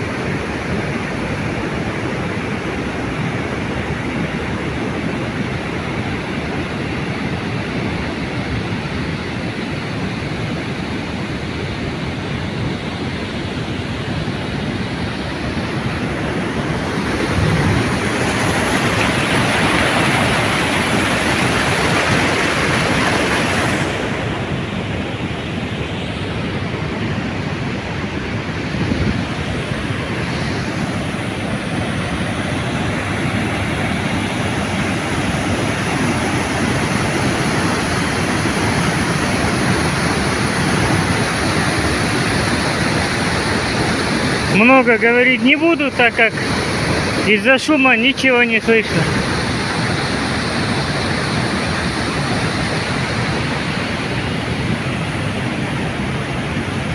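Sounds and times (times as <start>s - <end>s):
water rushing over weir: 0.0s - 56.9s.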